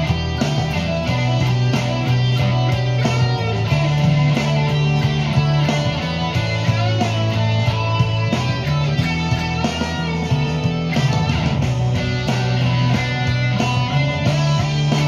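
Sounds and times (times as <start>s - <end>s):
bass line: 0.0s - 15.0s
drums beat: 0.0s - 15.0s
electric guitar playing rock: 0.0s - 15.0s.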